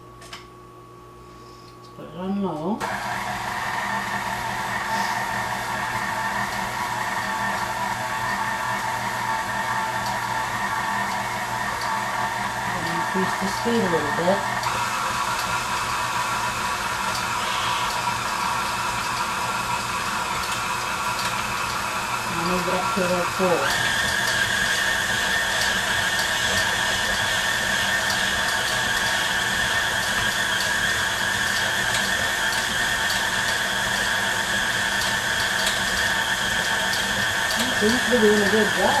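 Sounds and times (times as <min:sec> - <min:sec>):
stand mixer running: 0:02.8 - 0:39.0.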